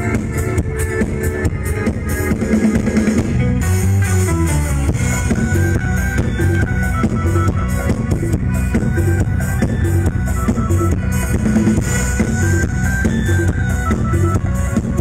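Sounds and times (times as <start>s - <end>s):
drum beat: 0.0s - 15.0s
live band music: 0.0s - 15.0s.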